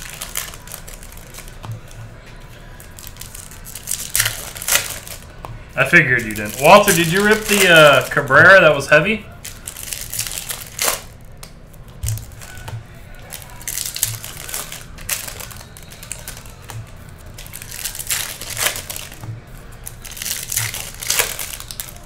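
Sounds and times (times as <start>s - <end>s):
foil wrappers crinkling and tearing: 0.0s - 22.0s.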